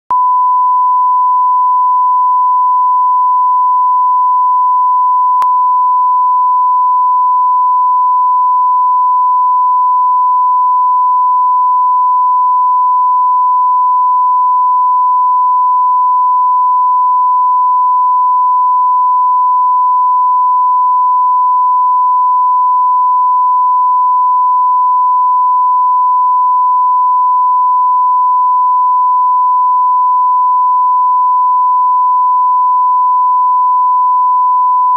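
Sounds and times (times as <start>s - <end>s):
steady pure beep tone: 0.1s - 34.9s.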